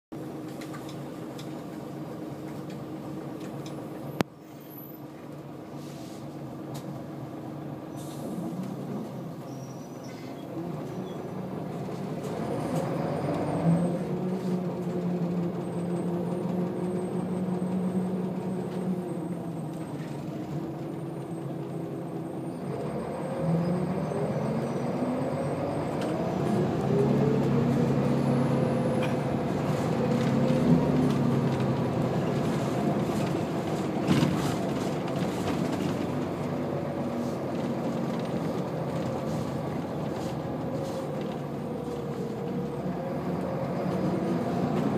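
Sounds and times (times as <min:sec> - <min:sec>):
bus diesel engine accelerating: 0:00.1 - 0:44.9
road rumble: 0:00.1 - 0:44.9.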